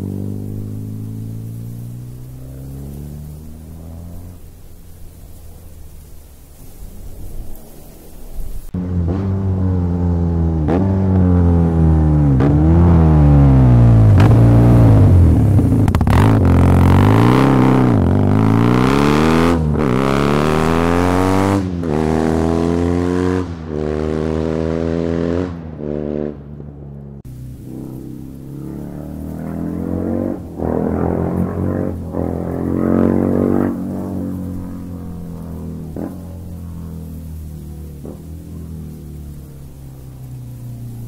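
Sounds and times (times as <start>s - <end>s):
motorcycle engine revving: 0.0s - 7.6s, 8.6s - 41.0s
motorcycle passing by: 0.0s - 41.0s.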